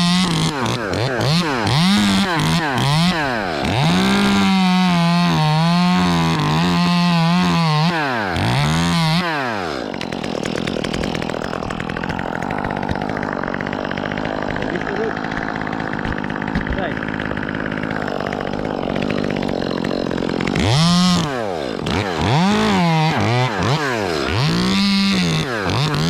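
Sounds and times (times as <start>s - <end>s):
chainsaw revving and cutting wood: 0.0s - 26.0s.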